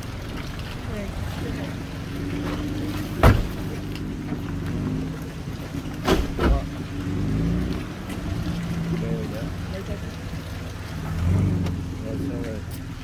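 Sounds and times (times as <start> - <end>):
vehicle clunking over ruts: 0.0 - 13.0
vehicle engine hum: 0.0 - 13.0.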